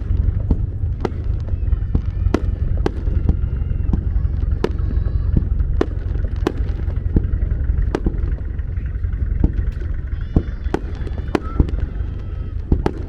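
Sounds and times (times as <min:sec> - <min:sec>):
continuous low rumble: 0:00.0 - 0:13.0
fireworks exploding: 0:00.0 - 0:13.0.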